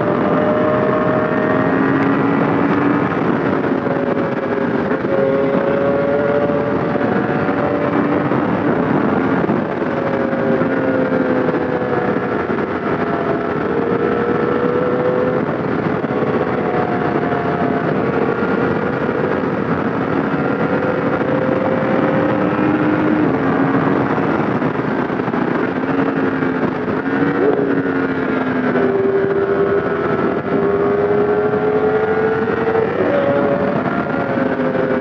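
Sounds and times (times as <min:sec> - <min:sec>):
motorcycle engine under way: 0:00.0 - 0:35.0
wind noise on microphone: 0:00.0 - 0:35.0.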